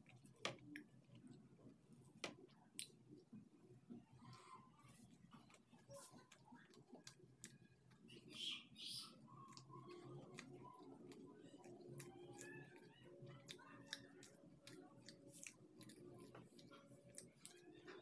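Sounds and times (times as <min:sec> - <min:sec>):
close-up chewing food: 0:00.0 - 0:18.0
faint steady hum: 0:00.0 - 0:18.0.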